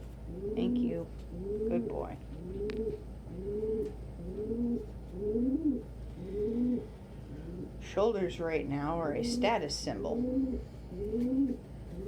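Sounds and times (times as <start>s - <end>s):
pigeon cooing: 0.3s - 7.8s, 9.1s - 12.0s.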